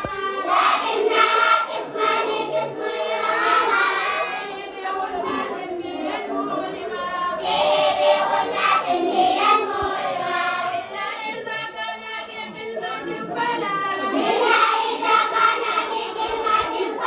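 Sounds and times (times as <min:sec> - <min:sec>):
children singing in chorus: 0:00.0 - 0:11.4, 0:14.0 - 0:17.0.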